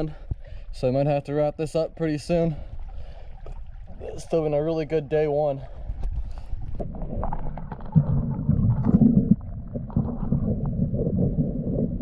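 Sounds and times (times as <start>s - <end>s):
muffled underwater rumble: 1.9s - 12.0s.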